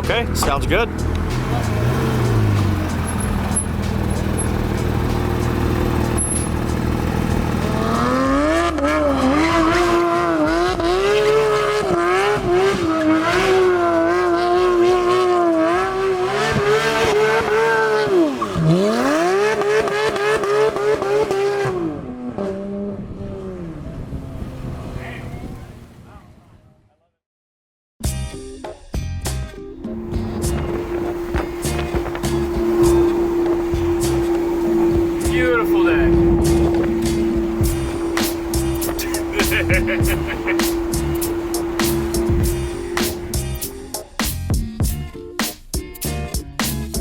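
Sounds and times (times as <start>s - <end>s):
sports car engine howling: 0.0s - 25.8s, 29.7s - 44.4s.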